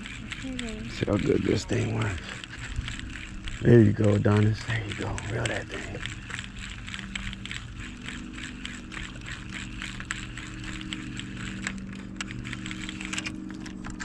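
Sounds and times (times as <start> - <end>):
fishing reel ticking: 0.0 - 14.0
low hum: 0.0 - 14.0.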